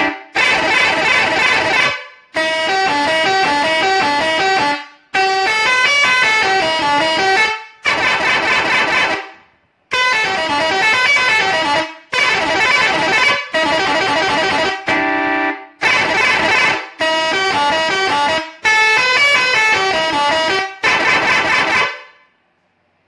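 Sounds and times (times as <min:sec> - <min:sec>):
air horn playing a tune: 0:00.0 - 0:22.3.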